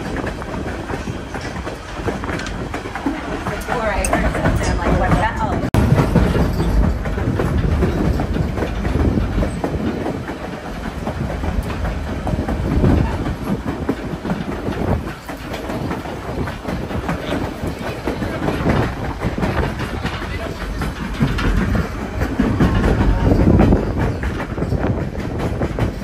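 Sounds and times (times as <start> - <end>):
train wheels rumbling and clattering: 0.0 - 26.0.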